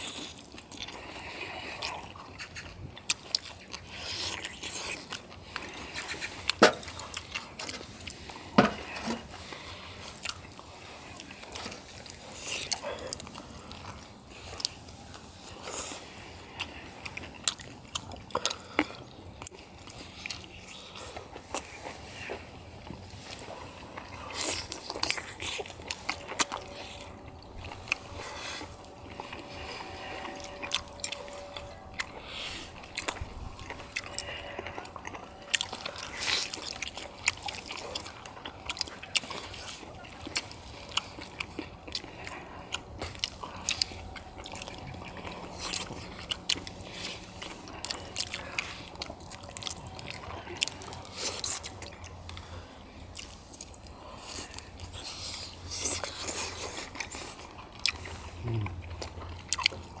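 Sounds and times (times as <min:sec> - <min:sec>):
people chewing food: 0:00.0 - 1:00.0.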